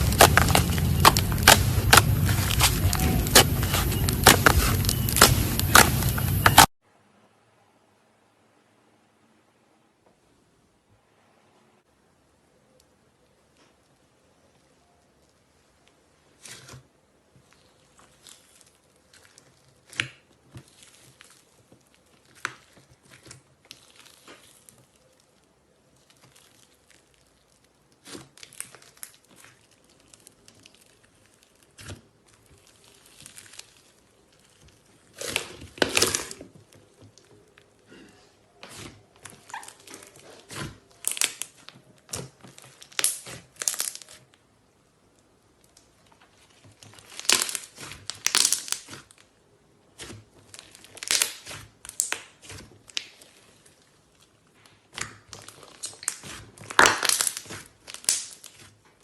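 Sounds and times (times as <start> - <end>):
slime crackling and popping: 0.0 - 6.7, 17.5 - 37.8, 38.6 - 59.0.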